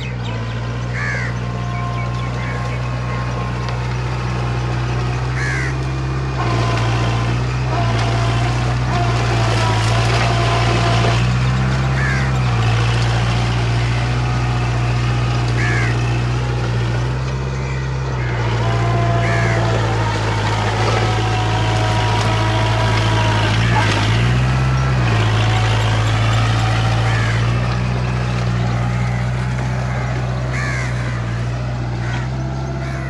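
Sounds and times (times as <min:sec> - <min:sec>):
crows cawing: 0:00.0 - 0:33.0
tractor diesel engine under load: 0:00.0 - 0:33.0.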